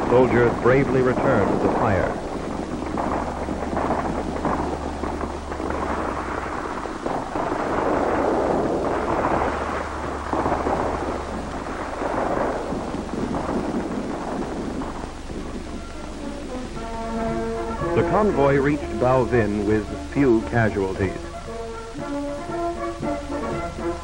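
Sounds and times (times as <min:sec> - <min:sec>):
heavy gunfire crackle: 0:00.0 - 0:24.0
steady low hum: 0:00.0 - 0:24.0.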